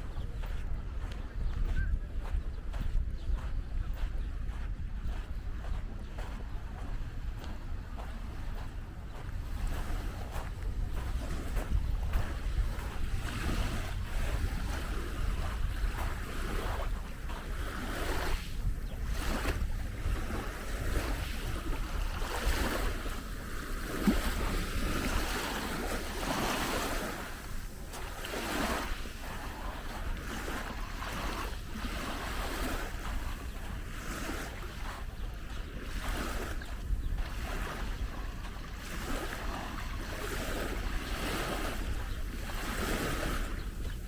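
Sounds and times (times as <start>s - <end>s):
small waves washing ashore: 0.0s - 44.0s
wind buffeting microphone: 0.0s - 44.0s.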